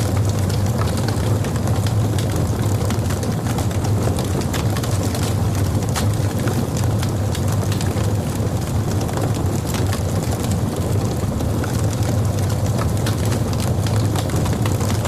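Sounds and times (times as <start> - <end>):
burning wood crackling: 0.0 - 15.0
low rumble of flames: 0.0 - 15.0.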